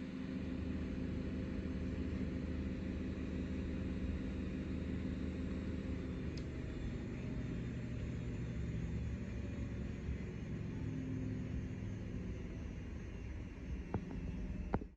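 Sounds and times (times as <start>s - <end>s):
faint hum: 0.0s - 14.9s.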